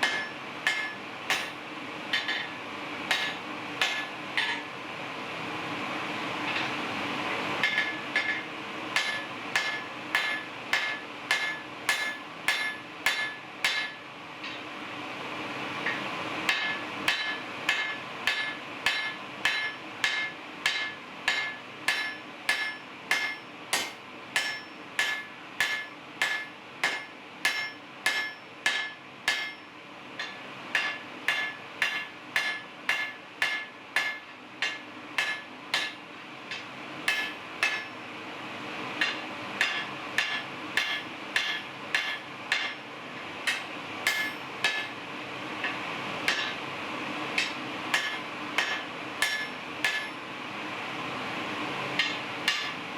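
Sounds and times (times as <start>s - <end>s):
hammer striking hot steel on anvil: 0.0s - 4.8s, 7.6s - 14.7s, 15.8s - 38.0s, 39.0s - 45.0s, 45.6s - 46.7s, 47.4s - 50.2s, 52.0s - 52.9s.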